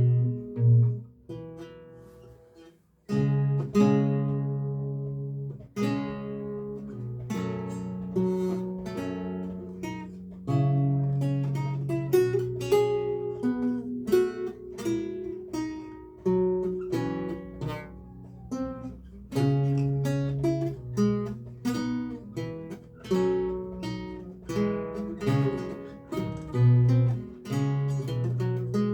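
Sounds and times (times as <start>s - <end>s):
solo lute plucked notes: 0.0s - 28.9s.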